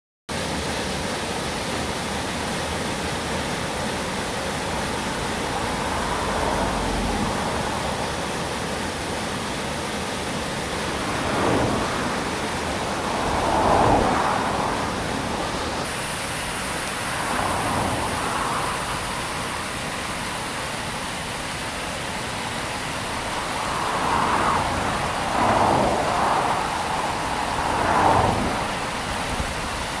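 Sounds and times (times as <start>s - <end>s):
water rushing over weir: 0.3s - 30.0s.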